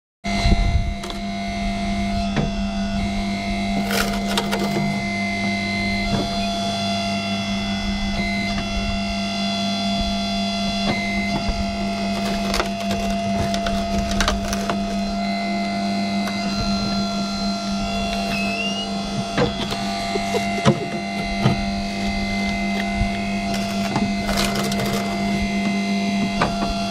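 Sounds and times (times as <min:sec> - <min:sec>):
hydraulic system humming: 0:00.3 - 0:26.9.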